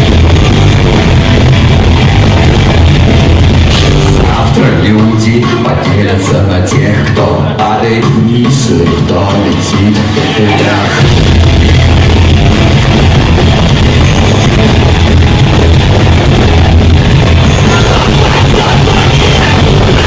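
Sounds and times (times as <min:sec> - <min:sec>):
rock band playing heavy rock: 0:00.0 - 0:20.0.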